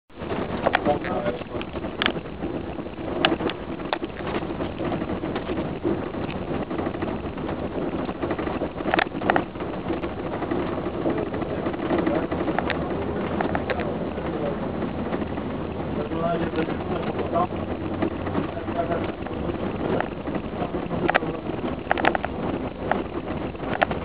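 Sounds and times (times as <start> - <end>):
vehicle engine and road noise: 0.1 - 24.0
sharp rattles or clicks: 0.2 - 24.0.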